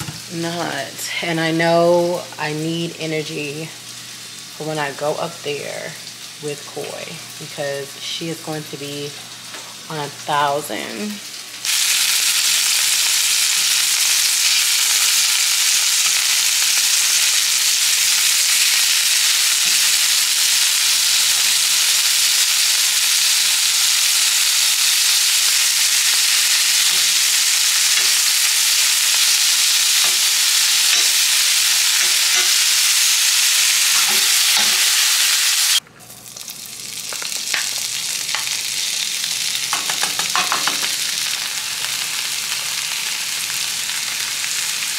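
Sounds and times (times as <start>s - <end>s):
food sizzling in frying pan: 3.4s - 5.0s, 5.9s - 6.4s, 9.1s - 44.9s.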